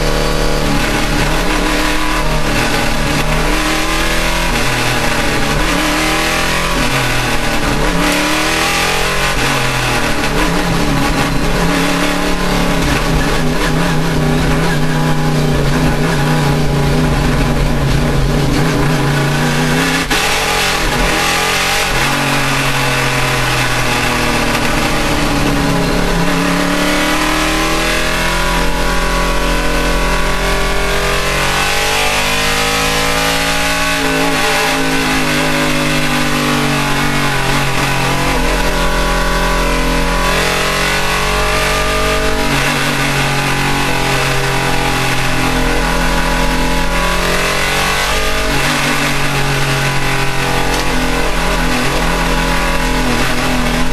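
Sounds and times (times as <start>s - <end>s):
loud rushing noise: 0.0s - 53.9s
race car engine revving: 0.0s - 53.9s.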